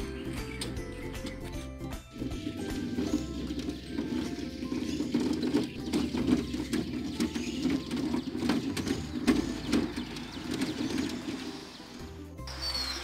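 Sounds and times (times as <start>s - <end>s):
metal frame rattling: 0.0s - 11.8s
hand trolley rumbling on asphalt: 0.0s - 13.0s.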